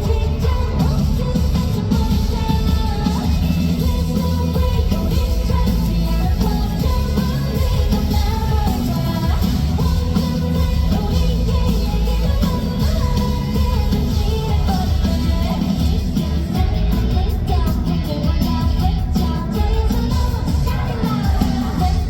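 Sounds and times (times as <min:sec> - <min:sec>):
live pop-rock band: 0:00.0 - 0:22.0
woman singing lead vocals: 0:00.0 - 0:22.0.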